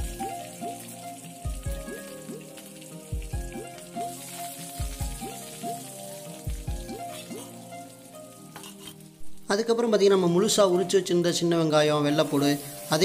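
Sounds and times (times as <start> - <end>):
background music: 0.0 - 13.0
onion sizzling in hot oil: 0.0 - 13.0.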